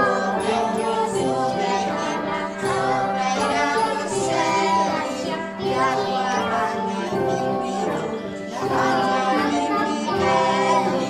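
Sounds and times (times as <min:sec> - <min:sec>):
children and parents singing: 0:00.0 - 0:11.0
musical accompaniment: 0:00.0 - 0:11.0.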